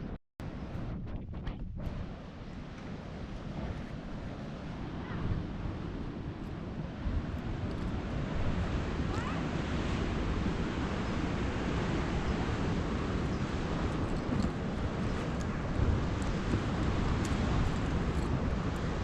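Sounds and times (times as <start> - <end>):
wind gusting on microphone: 0.0 - 19.0
ocean waves washing: 1.9 - 19.0.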